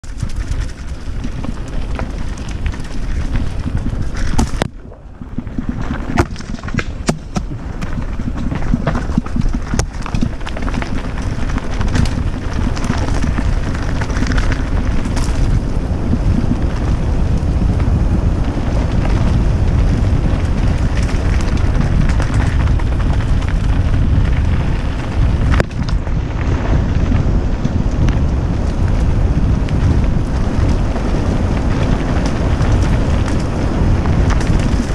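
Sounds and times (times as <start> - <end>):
bike knocking and rattling: 0.0 - 34.9
wind buffeting microphone: 0.0 - 34.9.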